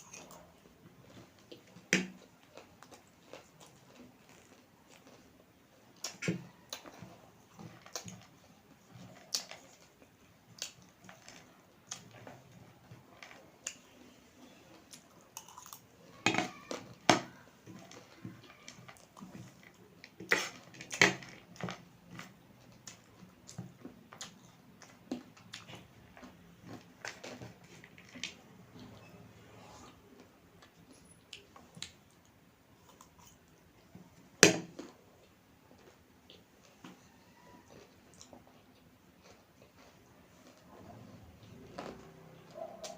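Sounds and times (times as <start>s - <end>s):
chewing noodles: 0.0s - 13.9s, 14.5s - 33.6s, 34.8s - 42.9s.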